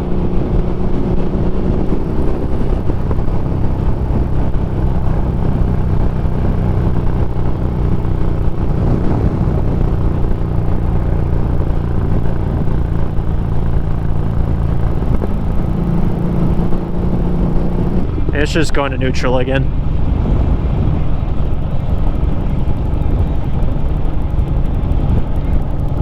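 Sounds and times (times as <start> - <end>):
motorcycle engine running: 0.0 - 18.8, 19.6 - 26.0
steady rushing noise: 0.0 - 26.0.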